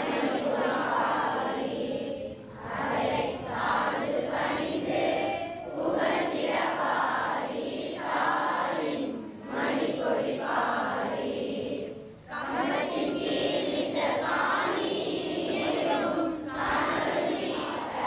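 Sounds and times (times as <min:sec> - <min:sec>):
group chanting in unison: 0:00.0 - 0:18.0.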